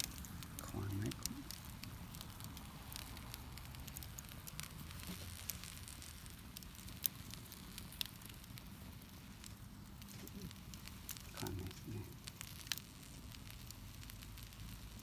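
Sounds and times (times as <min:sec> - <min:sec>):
sharp fire pops: 0:00.0 - 0:15.0
wood campfire crackling: 0:00.0 - 0:15.0.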